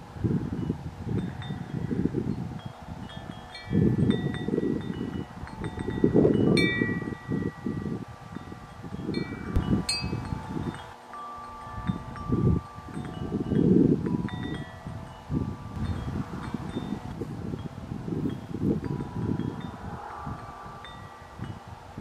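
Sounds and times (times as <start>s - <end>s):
wind buffeting microphone: 0.0s - 22.0s
wind chimes ringing: 0.5s - 22.0s.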